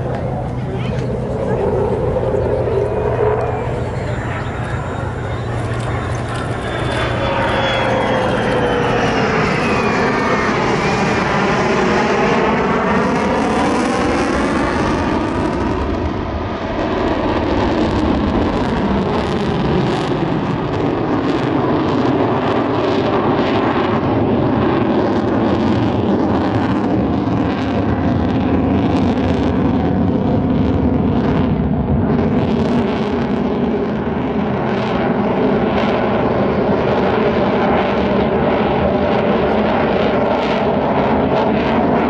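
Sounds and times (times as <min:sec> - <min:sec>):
jet engine flying past: 0:00.0 - 0:42.0.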